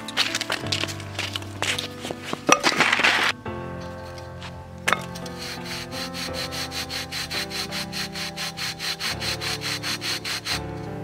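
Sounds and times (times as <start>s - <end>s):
hands rubbing paper disc: 0.0s - 3.4s, 4.1s - 11.0s
background music: 0.0s - 11.0s.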